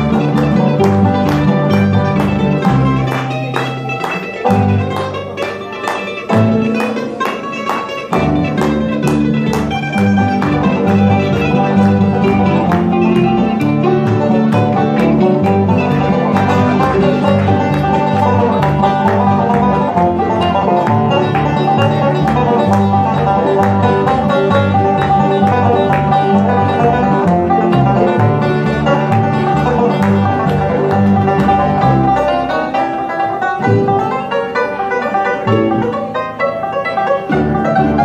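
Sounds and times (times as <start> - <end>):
upright bass line: 0.0 - 5.4, 8.1 - 38.0
mandolin: 0.0 - 38.0.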